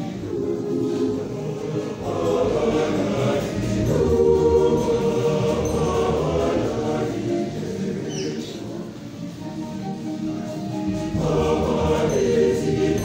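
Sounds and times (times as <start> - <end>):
mixed choir singing in harmony: 0.0 - 13.0.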